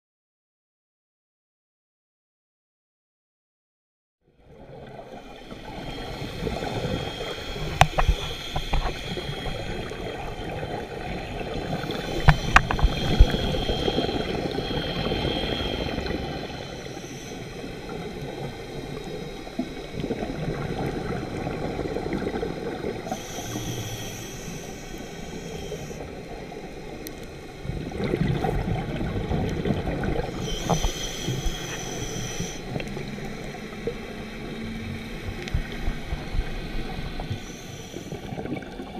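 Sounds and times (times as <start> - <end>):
underwater rushing and gurgling: 4.4 - 38.9.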